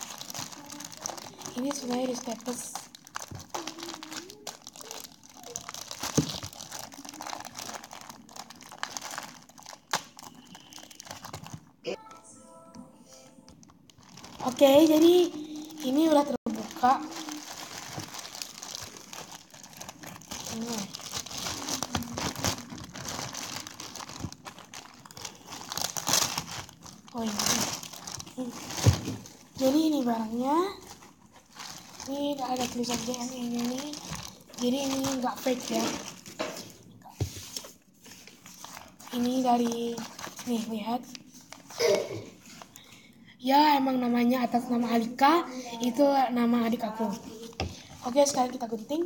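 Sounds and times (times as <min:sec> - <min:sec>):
plastic packaging crinkling: 0:00.0 - 0:11.7, 0:13.4 - 0:42.9, 0:46.9 - 0:49.0.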